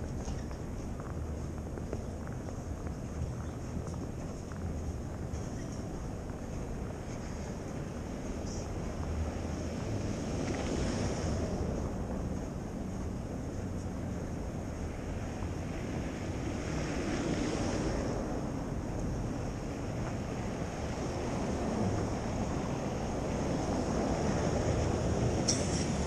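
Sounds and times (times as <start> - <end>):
traffic rumbling past: 0.0 - 26.0.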